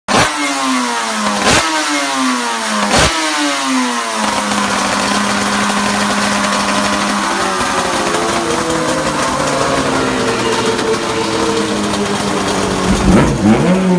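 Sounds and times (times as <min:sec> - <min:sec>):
two-stroke racing engine revving: 0:00.1 - 0:13.9.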